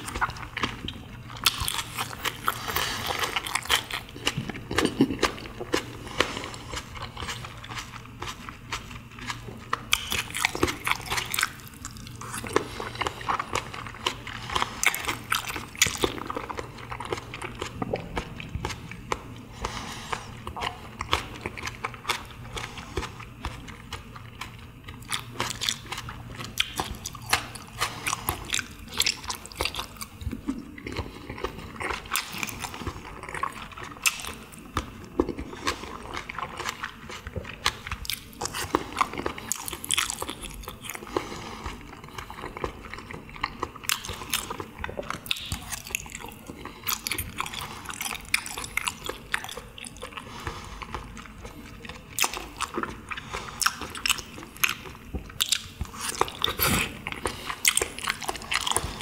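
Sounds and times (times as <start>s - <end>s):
close chewing with mouth clicks: 0.0s - 59.0s.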